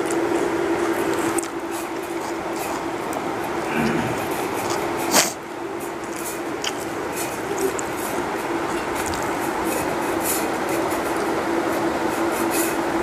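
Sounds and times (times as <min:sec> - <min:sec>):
eating from a steel plate: 0:00.0 - 0:13.0
steady hum: 0:00.0 - 0:13.0.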